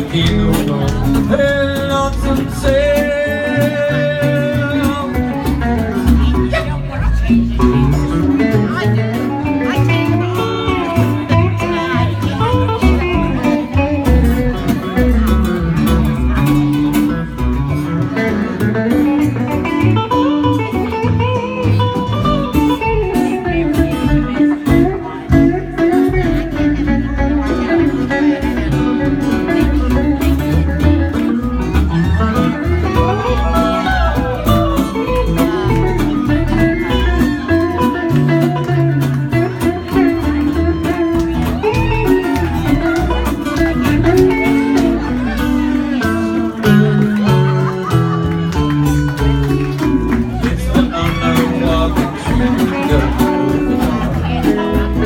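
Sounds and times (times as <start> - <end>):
acoustic guitar: 0.0 - 55.0.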